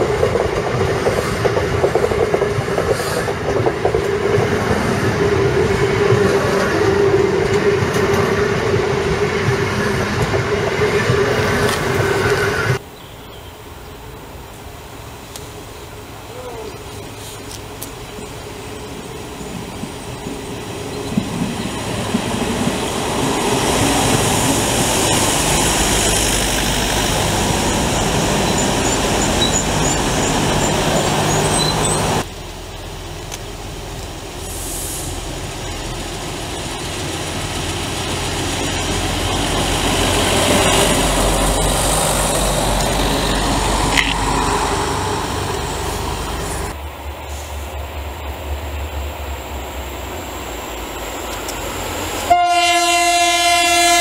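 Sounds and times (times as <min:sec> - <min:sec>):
distant train rumble: 0:00.0 - 0:54.0
train passing through station: 0:00.0 - 0:54.0.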